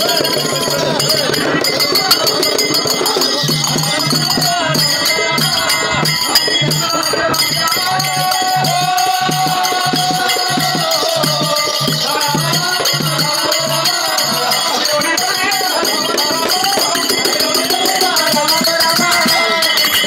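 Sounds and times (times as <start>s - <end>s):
jingling rattle percussion: 0.0s - 20.0s
steady drumbeat: 0.0s - 20.0s.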